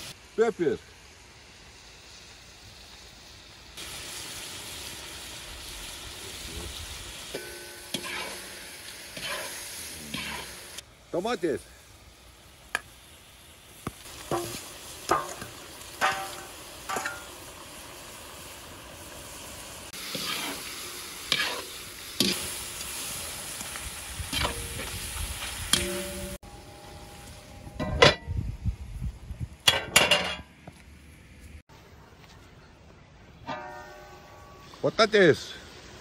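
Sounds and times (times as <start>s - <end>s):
food sizzling in a pot: 0.0s - 30.4s, 33.4s - 36.0s.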